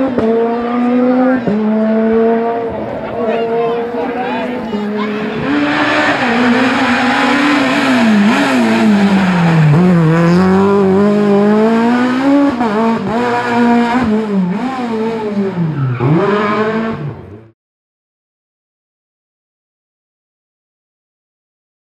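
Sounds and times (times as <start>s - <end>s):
rally car engine revving: 0.0s - 17.6s.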